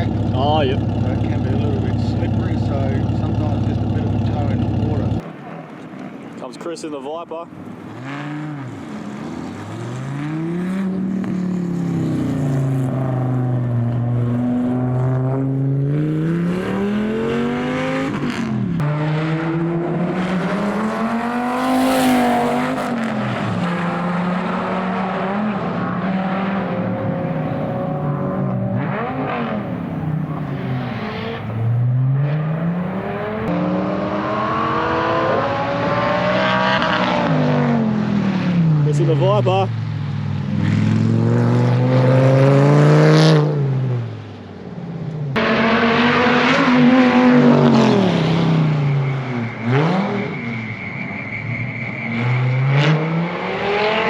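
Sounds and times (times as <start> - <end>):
car engine revving hard: 0.0 - 5.2, 8.0 - 39.7, 40.4 - 44.1, 45.3 - 54.0.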